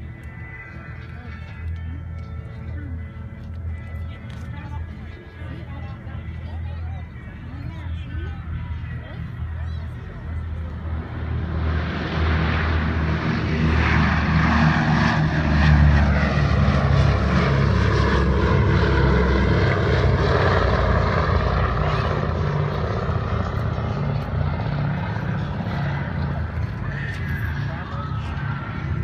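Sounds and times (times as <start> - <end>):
low propeller drone: 0.0 - 29.0.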